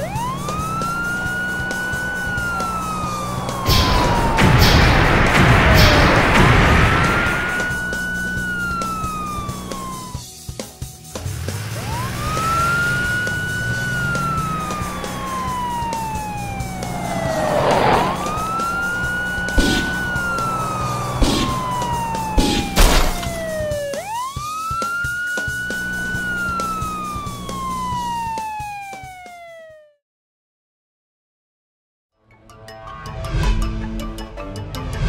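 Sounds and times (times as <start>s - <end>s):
police siren wailing: 0.0s - 10.2s, 11.6s - 30.0s
background music: 0.0s - 28.9s.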